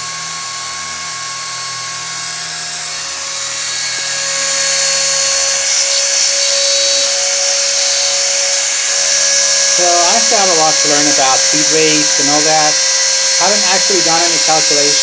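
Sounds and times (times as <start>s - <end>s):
axis motors whining: 0.0s - 15.0s
router spindle high-pitched whine: 0.0s - 15.0s.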